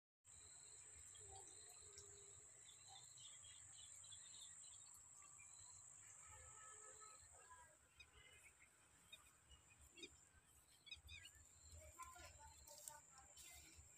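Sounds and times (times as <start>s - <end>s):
bird chirps: 0.3s - 13.9s.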